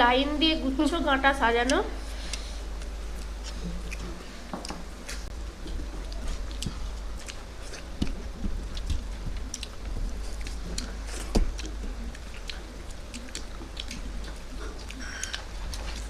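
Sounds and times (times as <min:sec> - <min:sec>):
low steady hum: 0:00.0 - 0:16.0
chewing: 0:02.0 - 0:16.0.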